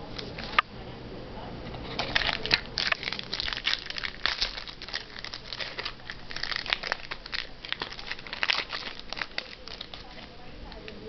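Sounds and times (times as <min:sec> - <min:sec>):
card packs crinkling and rustling: 0:00.2 - 0:00.6, 0:01.8 - 0:11.0.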